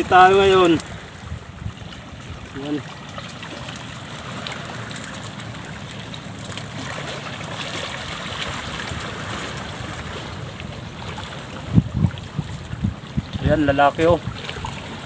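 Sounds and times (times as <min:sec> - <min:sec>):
water rushing on seashore: 0:00.0 - 0:15.0
wind: 0:00.0 - 0:15.0.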